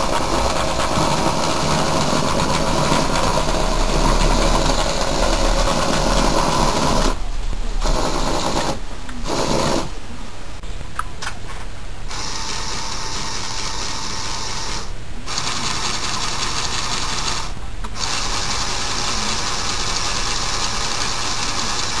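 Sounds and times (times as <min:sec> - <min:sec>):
electric motors and gears whirring: 0:00.0 - 0:10.0, 0:12.1 - 0:22.0.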